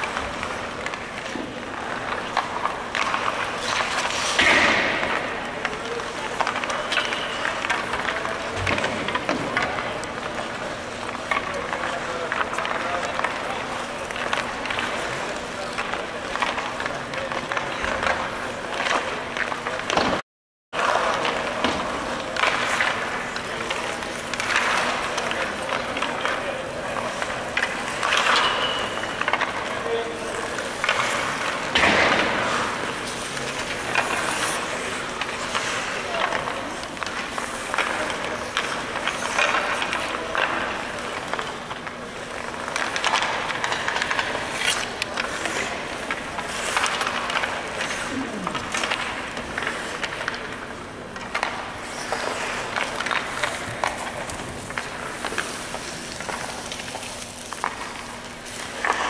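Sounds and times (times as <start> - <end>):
skates scraping on ice: 0.0 - 20.1, 20.8 - 59.0
hockey sticks and pucks clacking: 0.0 - 20.2, 20.8 - 59.0.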